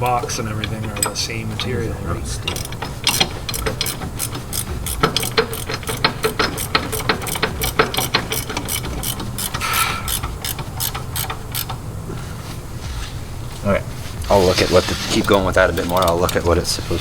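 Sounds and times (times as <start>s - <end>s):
ratchet wrench clicking: 0.0s - 11.9s, 14.5s - 17.0s.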